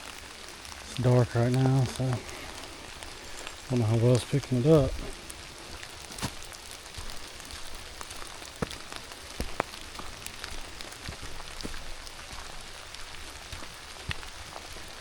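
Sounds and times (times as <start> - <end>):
raindrops ticking sharply: 0.0 - 15.0
steady rain hiss: 0.0 - 15.0.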